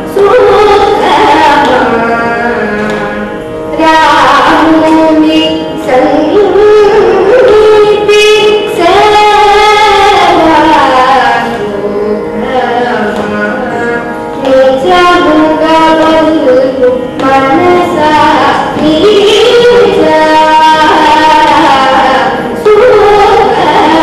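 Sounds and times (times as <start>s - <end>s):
girl singing ornamented vocal: 0.0s - 24.0s.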